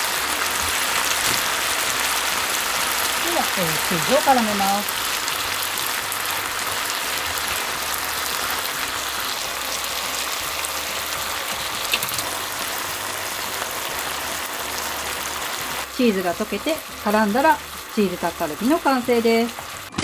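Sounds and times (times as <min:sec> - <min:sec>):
food sizzling in a frying pan: 0:00.0 - 0:19.9.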